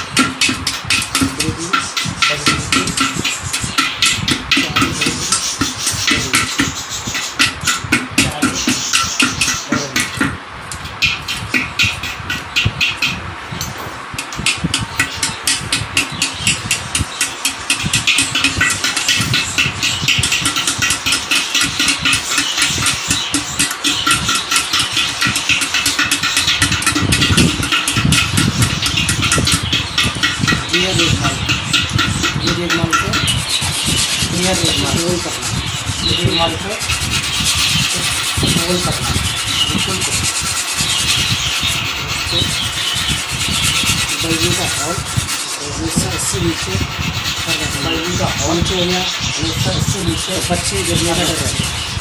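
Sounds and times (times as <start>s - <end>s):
metal file rasping on clay: 0.0s - 10.3s, 14.2s - 52.0s.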